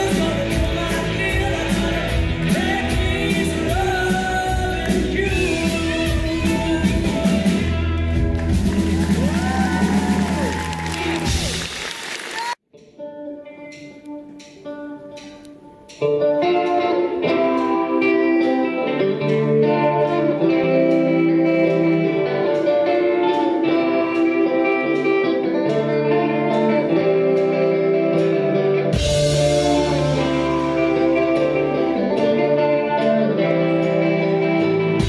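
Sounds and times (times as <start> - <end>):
live rock band instrumental: 0.0 - 12.1, 12.8 - 35.0.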